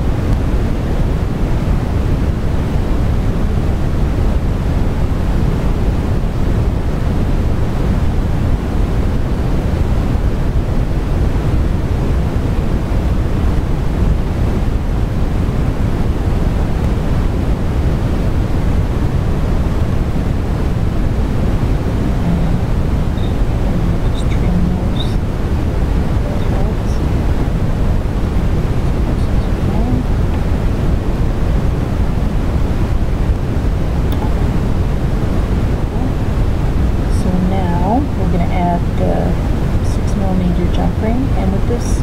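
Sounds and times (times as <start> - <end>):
steady loud rushing noise: 0.0 - 42.0.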